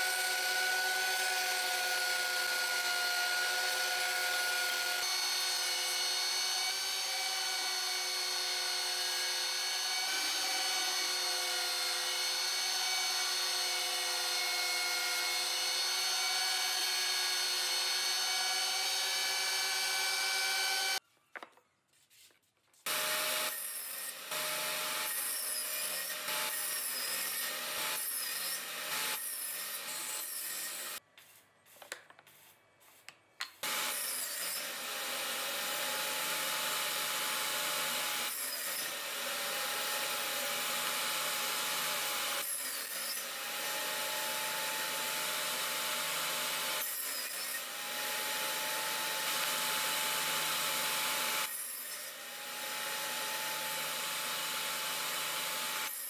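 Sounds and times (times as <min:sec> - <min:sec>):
table saw cutting wood: 0:00.0 - 0:21.0, 0:22.9 - 0:31.0, 0:33.6 - 0:56.0.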